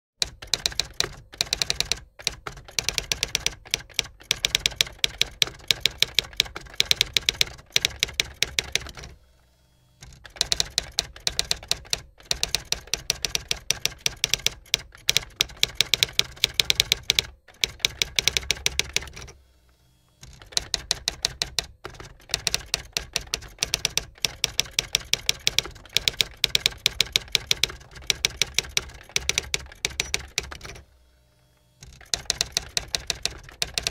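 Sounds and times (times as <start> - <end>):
typewriter keys clacking: 0.2 - 9.1, 10.1 - 19.3, 20.2 - 30.8, 31.8 - 33.9.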